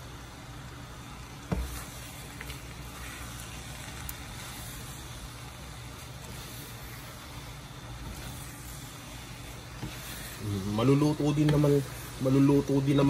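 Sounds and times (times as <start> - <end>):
faint sizzling: 0.0 - 13.0.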